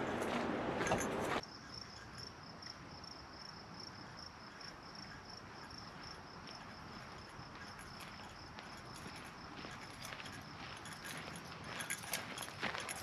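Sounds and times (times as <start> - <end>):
insect chirping: 1.3 - 13.0.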